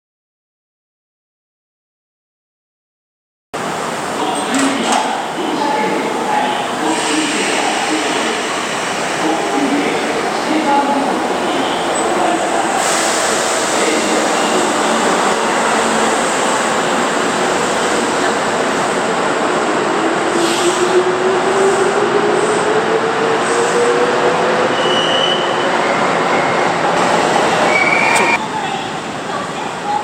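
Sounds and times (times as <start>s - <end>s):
electric train rumbling on rails: 3.6s - 30.0s.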